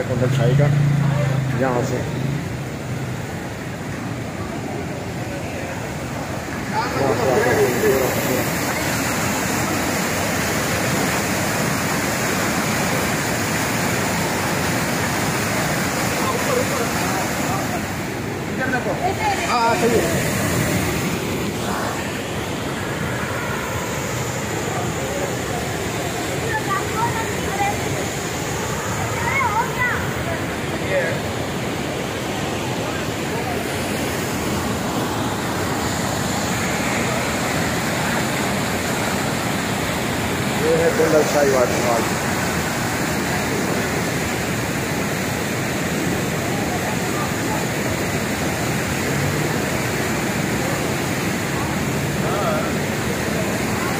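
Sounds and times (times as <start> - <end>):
river rushing over rocks: 0.0 - 53.9.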